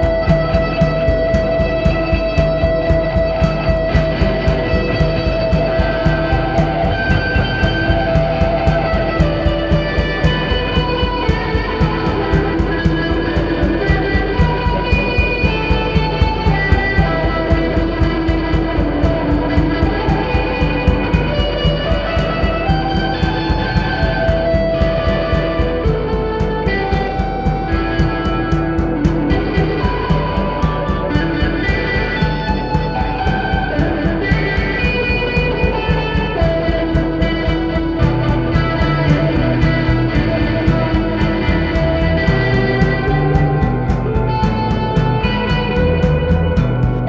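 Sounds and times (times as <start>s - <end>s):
psychedelic rock song: 0.0s - 47.0s
pulsing drum beat: 0.0s - 47.0s.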